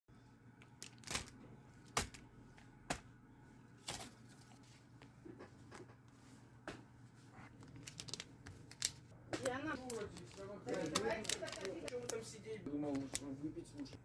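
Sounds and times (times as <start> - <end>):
faint steady hum: 0.1 - 14.0.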